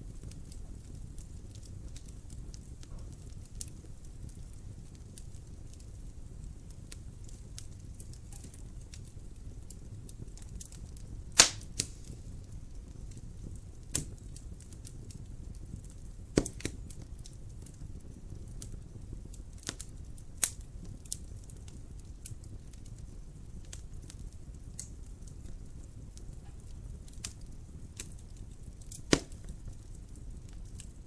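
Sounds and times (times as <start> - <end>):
fire crackling and popping: 0.0 - 31.0
fire flames rumbling: 0.0 - 31.0.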